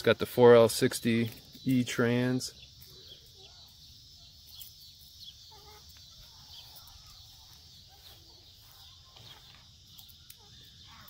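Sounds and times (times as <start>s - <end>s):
high insect hum: 0.0s - 11.0s
faint bird calls: 1.2s - 11.0s.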